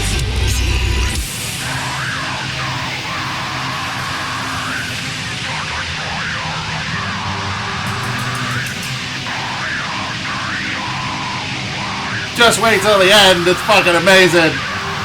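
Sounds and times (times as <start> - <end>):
heavy metal music: 0.0 - 15.0.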